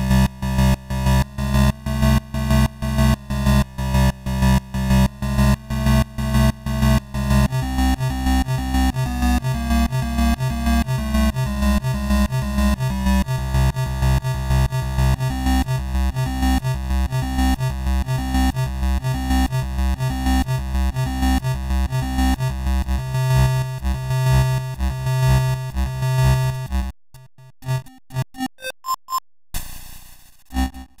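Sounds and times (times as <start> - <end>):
chiptune music: 0.0 - 29.2.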